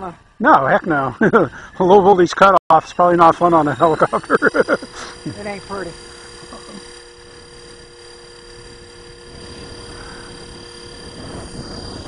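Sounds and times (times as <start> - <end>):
rc helicopter hovering: 0.0 - 12.0.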